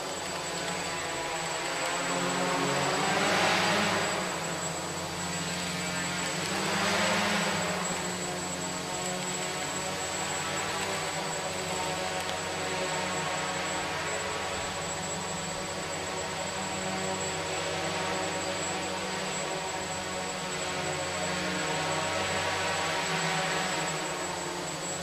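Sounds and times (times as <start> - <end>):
model aircraft motor whine: 0.0 - 25.0.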